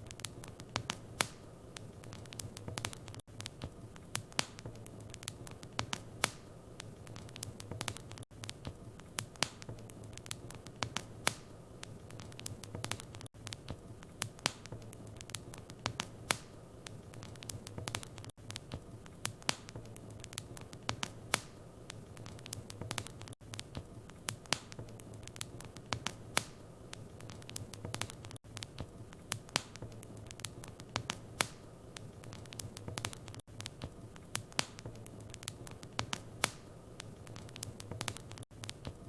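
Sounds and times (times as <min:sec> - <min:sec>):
fire popping and snapping: 0:00.0 - 0:39.0
soft steady hiss: 0:00.0 - 0:39.0.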